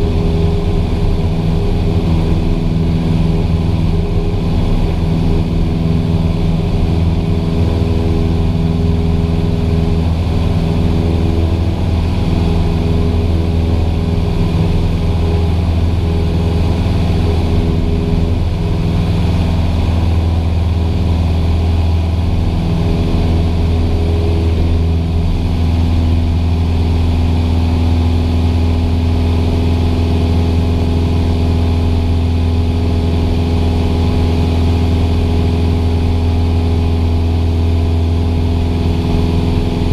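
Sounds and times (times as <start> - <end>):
aircraft piston engine and propeller: 0.0 - 39.9.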